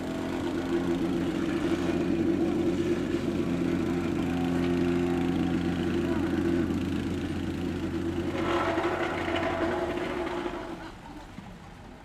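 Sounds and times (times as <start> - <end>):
plate compactor engine running: 0.0 - 10.5.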